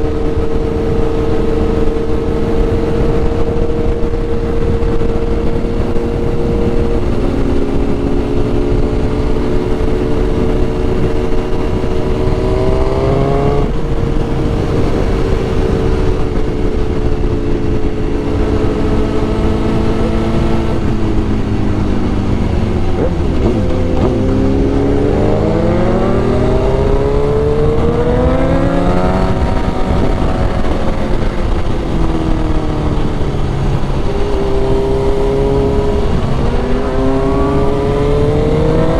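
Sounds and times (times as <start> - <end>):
motorcycle engine accelerating: 0.0 - 38.9
wind rumble: 0.0 - 38.9.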